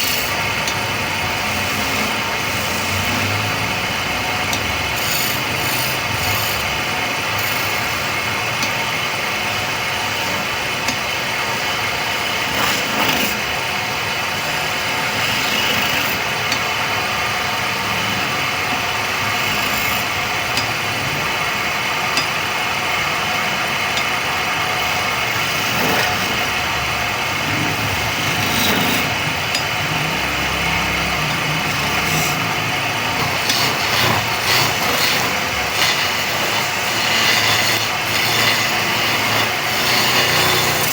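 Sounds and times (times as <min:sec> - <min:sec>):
wood lathe running: 0:00.0 - 0:40.9.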